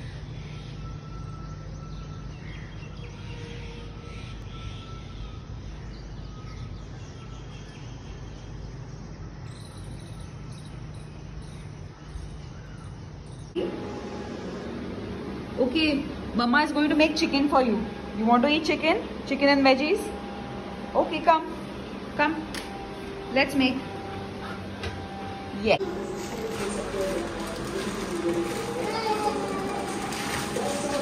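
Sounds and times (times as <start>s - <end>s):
distant traffic hum: 2.4s - 31.0s.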